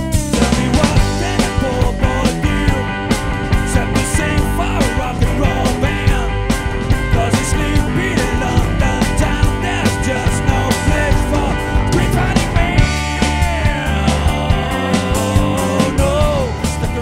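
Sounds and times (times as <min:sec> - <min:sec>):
rock band playing: 0:00.0 - 0:17.0
sliding lead guitar line: 0:00.0 - 0:17.0.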